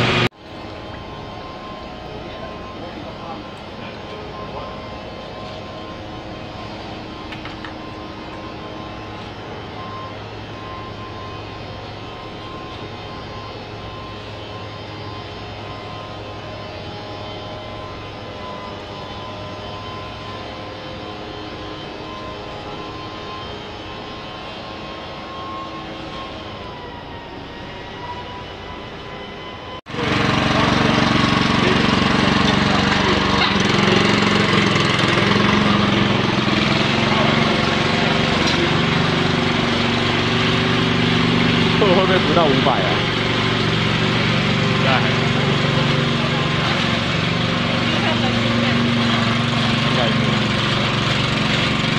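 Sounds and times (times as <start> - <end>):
loud machine noise: 0.0 - 51.9
machinery droning and whining: 0.0 - 51.9.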